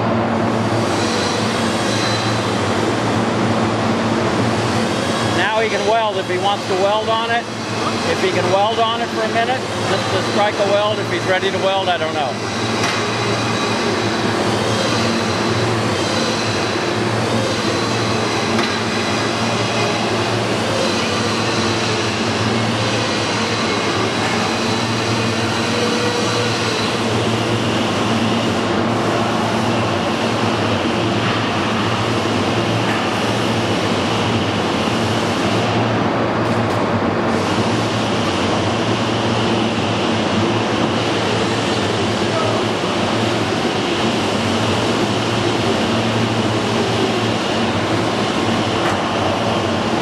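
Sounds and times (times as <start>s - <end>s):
machinery hum: 0.0s - 50.0s.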